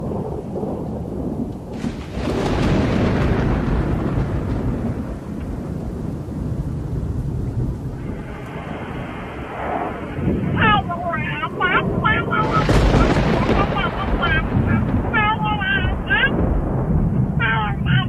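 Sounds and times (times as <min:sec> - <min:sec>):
storm wind and rain rumble: 0:00.0 - 0:18.0.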